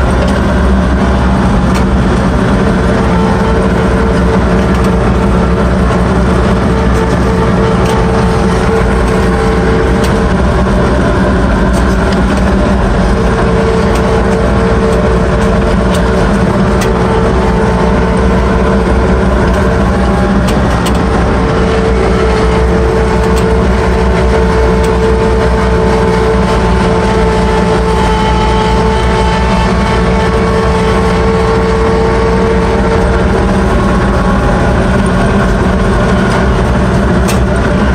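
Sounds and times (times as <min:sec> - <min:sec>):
diesel mower running: 0:00.0 - 0:37.9
steady whine: 0:00.0 - 0:37.9.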